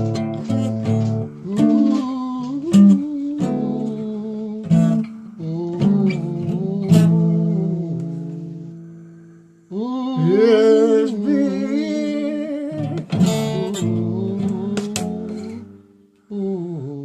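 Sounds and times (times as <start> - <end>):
person singing: 0.0 - 8.8, 9.6 - 17.0
acoustic guitar strumming chords: 0.0 - 16.2.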